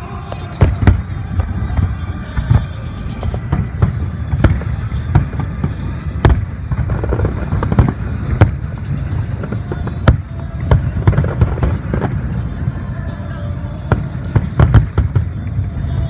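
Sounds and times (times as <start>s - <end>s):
fireworks booming: 0.0s - 16.0s
fireworks cracking reports: 0.0s - 16.0s.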